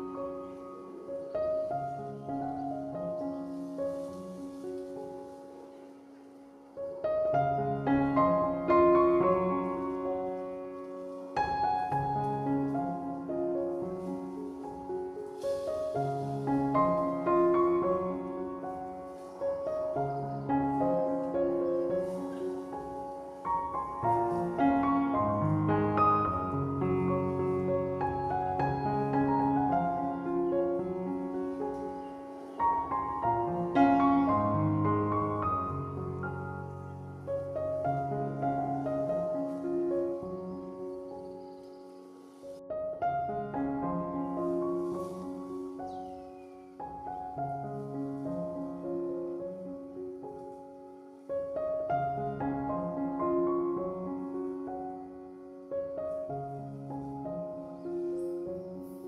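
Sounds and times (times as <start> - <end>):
slow piano music: 0.0 - 59.0.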